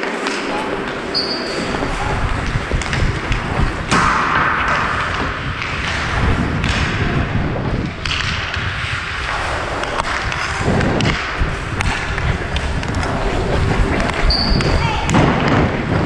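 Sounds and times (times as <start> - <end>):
skates scraping on ice: 0.0 - 16.0
wind rumble on microphone: 1.6 - 16.0
stick tapping puck: 2.2 - 7.1, 7.7 - 15.7.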